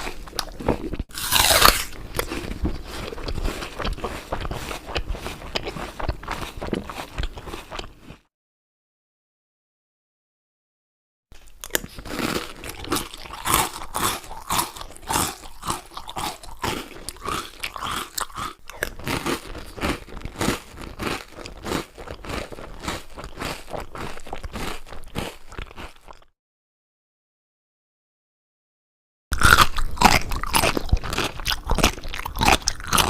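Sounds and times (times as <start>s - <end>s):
person chewing crunchy food: 0.0s - 8.3s, 11.4s - 26.3s, 29.3s - 33.0s.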